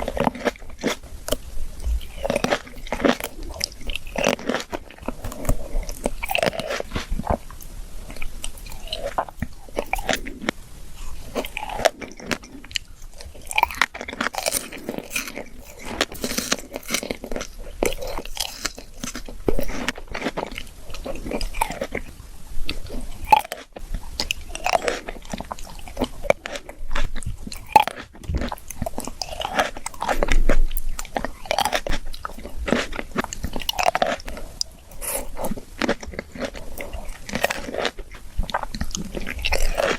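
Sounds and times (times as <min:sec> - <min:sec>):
crunchy bites of fresh fruit: 0:00.0 - 0:10.6, 0:11.2 - 0:39.9
wet chewing: 0:00.0 - 0:39.9.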